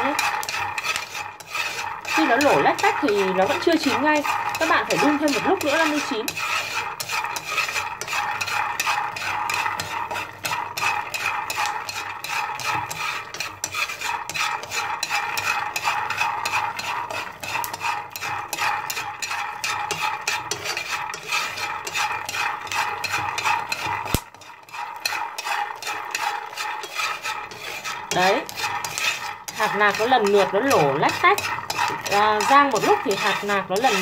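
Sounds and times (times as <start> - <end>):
peanuts crackling: 0.0 - 34.0
peanuts rattling in a frying pan: 0.0 - 34.0.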